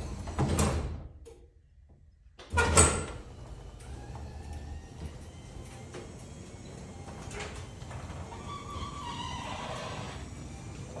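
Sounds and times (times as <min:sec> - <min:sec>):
garage door rumbling on tracks: 0:00.0 - 0:01.0, 0:02.5 - 0:11.0.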